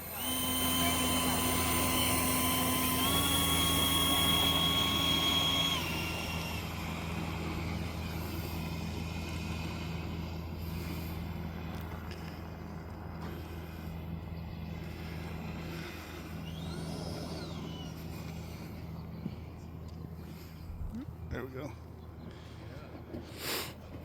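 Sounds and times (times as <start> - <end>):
model jet motor whining: 0.0 - 21.6.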